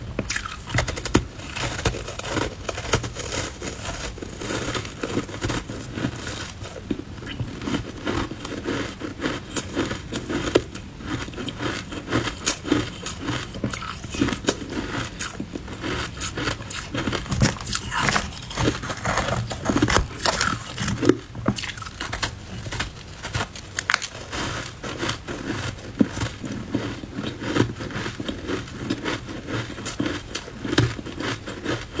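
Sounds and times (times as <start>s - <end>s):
chewing and crunching ice: 0.2s - 32.0s.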